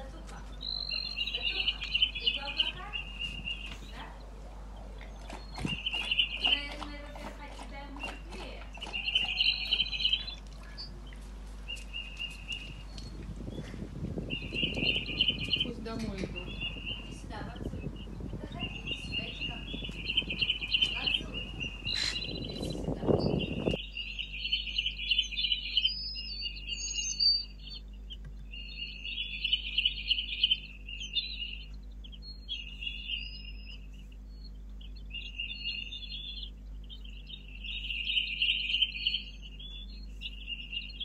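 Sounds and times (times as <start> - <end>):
small birds twittering: 0.0 - 41.0.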